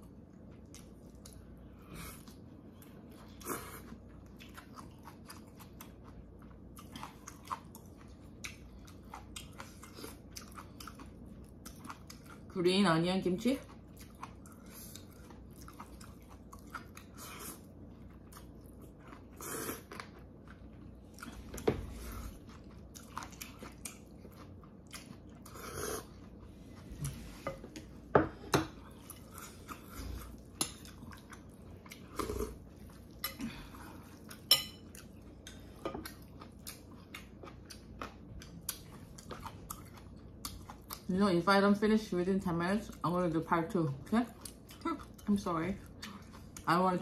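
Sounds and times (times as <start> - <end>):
chewing and slurping noodles: 0.2 - 12.5, 13.6 - 27.4, 28.8 - 41.1.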